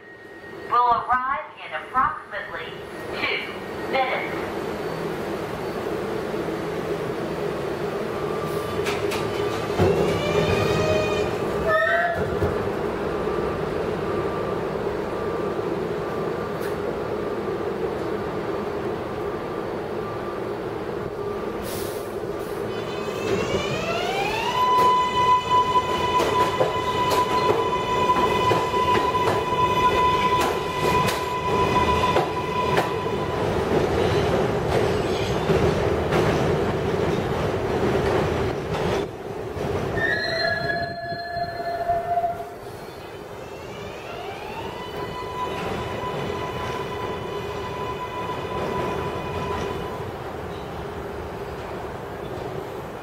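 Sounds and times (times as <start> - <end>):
train wheels rumbling on rail: 3.0 - 19.4, 20.9 - 53.0.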